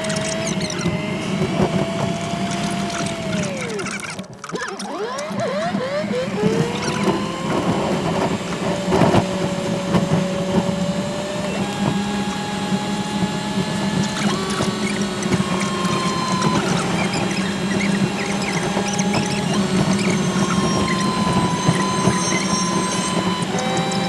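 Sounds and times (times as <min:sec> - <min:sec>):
vehicle engine drone: 0:00.0 - 0:04.4, 0:05.4 - 0:24.0
gliding whining tones: 0:00.0 - 0:24.0.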